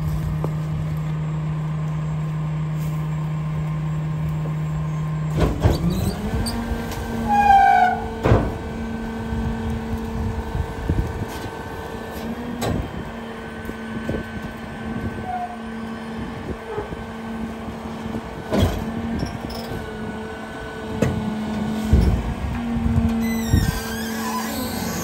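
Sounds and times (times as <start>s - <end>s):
diesel engine idling: 0.0s - 23.1s
hydraulic whine: 0.0s - 25.0s.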